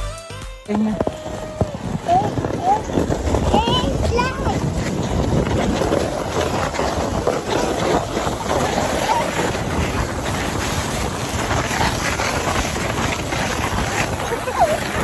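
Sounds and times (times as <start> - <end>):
sled scraping over snow: 0.7 - 15.0
wind buffeting microphone: 0.8 - 15.0.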